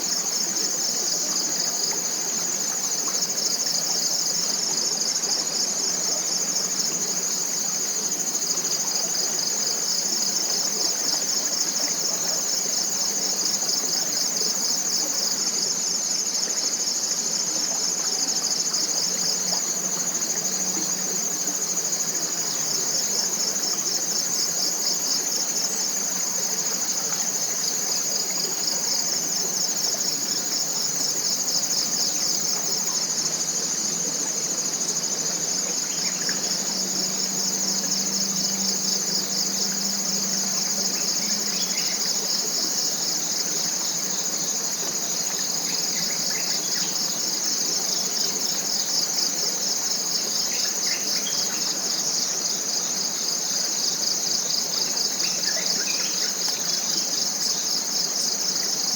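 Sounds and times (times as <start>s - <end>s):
insects pulsing rapidly: 0.0s - 58.9s
insects trilling: 0.0s - 58.9s.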